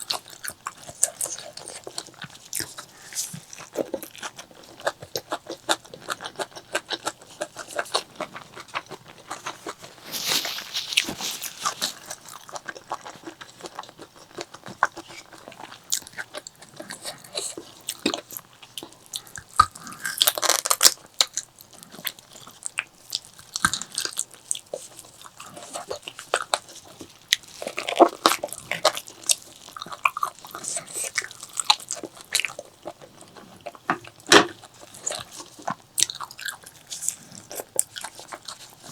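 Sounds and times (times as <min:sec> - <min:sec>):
person chewing and crunching food: 0:00.0 - 0:38.9.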